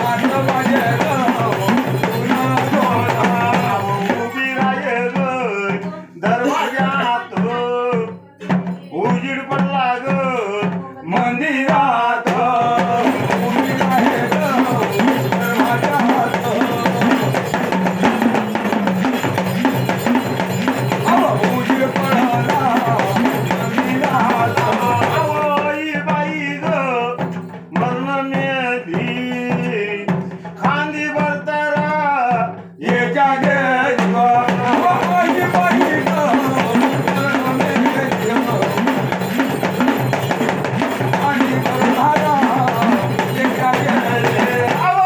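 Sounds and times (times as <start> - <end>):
hand drum beat: 0.0 - 45.0
person singing: 0.0 - 45.0.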